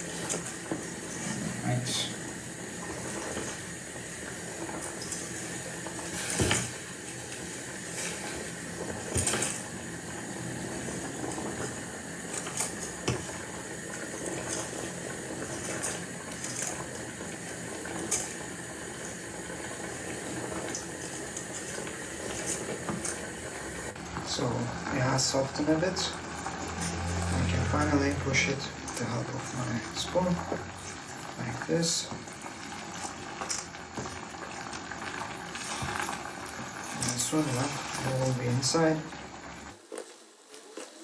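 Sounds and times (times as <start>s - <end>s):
water boiling in a pot: 0.0s - 41.0s.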